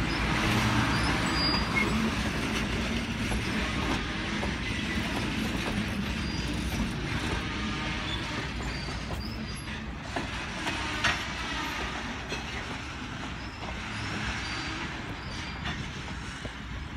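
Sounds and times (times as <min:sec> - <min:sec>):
high wheel squeals: 0:00.0 - 0:16.9
train wheels on rail: 0:00.0 - 0:16.9.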